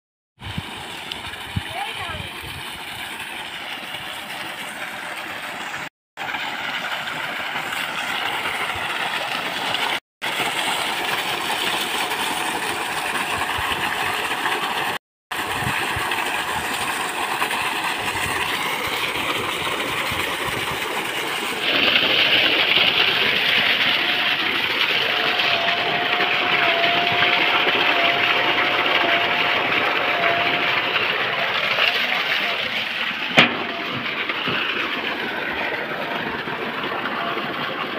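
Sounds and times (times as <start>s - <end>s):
pump motor noise: 0.4s - 37.9s
water rushing from pipe: 0.4s - 37.9s.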